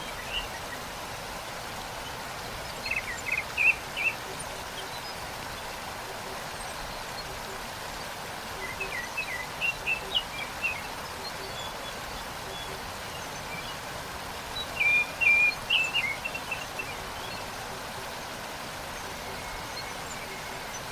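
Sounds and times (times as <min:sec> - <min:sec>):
songbirds chirping: 0:00.0 - 0:20.9
waterfall rushing: 0:00.0 - 0:20.9.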